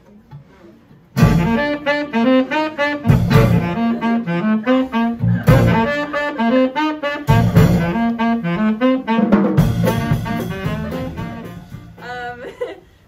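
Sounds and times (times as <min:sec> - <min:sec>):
low jazz accompaniment: 0:00.0 - 0:12.7
saxophone melody: 0:01.2 - 0:12.3.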